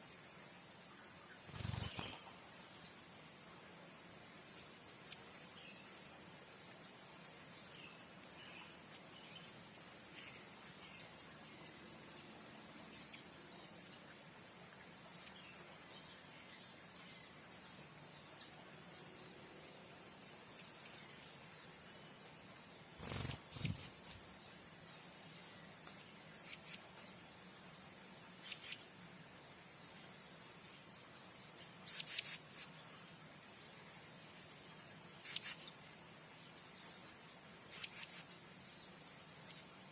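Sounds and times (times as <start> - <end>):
pulsing insect chorus: 0.0 - 39.9.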